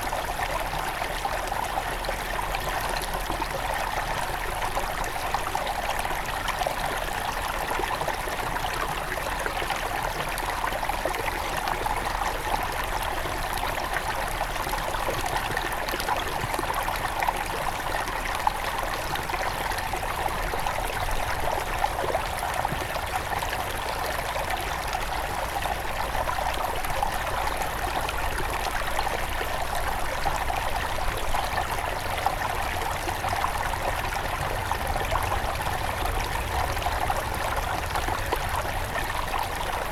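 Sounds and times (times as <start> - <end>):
small river flowing over stones: 0.0 - 39.9.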